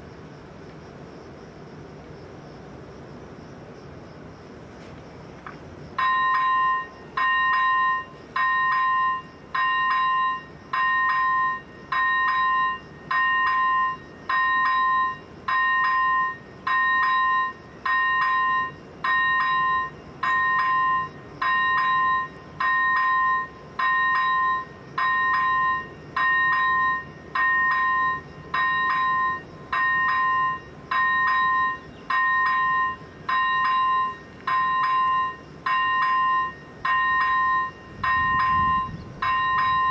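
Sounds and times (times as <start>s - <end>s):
level crossing warning bell: 6.0s - 39.9s.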